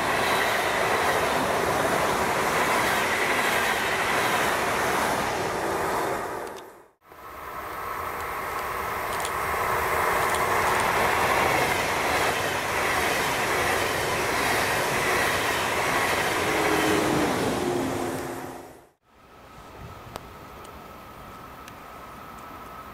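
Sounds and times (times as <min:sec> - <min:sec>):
train passing on track: 0:00.0 - 0:22.9.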